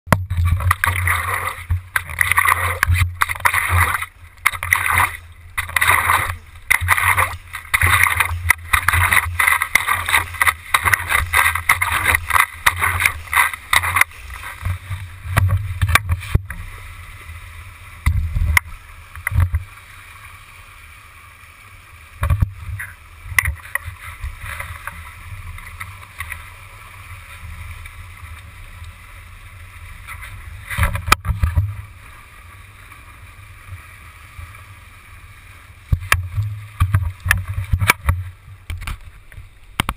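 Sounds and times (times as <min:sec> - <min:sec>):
water rushing around paddle: 0:00.1 - 0:39.9
water splashes: 0:00.1 - 0:39.9.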